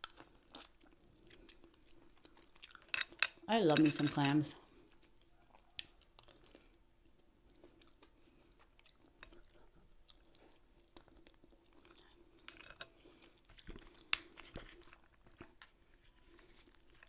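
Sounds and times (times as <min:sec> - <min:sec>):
close-up chewing: 0:00.0 - 0:17.0.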